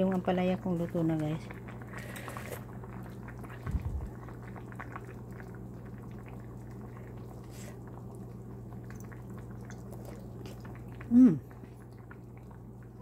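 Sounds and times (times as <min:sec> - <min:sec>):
steady low hum: 0:00.0 - 0:13.0
soup simmering and bubbling: 0:00.1 - 0:13.0.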